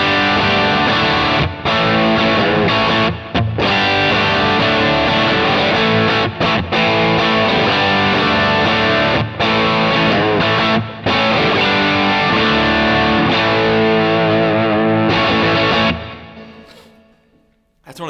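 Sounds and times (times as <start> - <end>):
overdriven electric guitar: 0.0 - 16.9.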